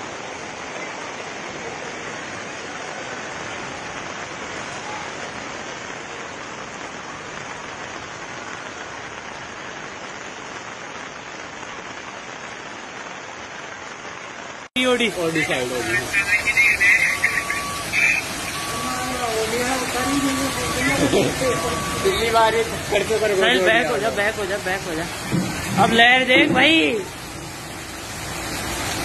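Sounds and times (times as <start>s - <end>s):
heavy rain: 0.0s - 29.0s
rushing floodwater: 0.0s - 29.0s.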